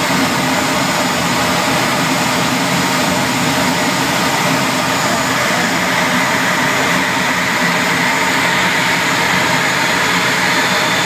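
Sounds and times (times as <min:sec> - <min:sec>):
faint steady whine: 0:00.0 - 0:11.0
jet engines running: 0:00.0 - 0:11.0.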